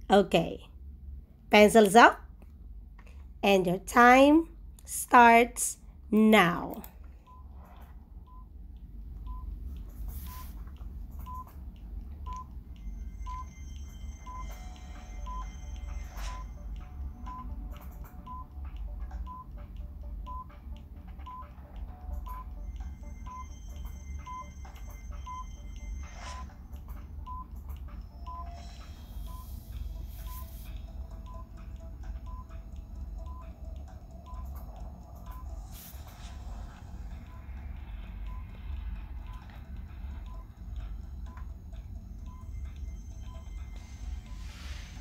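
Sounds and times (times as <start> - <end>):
steady low hum: 0.0 - 45.0
timer beeping: 6.3 - 45.0.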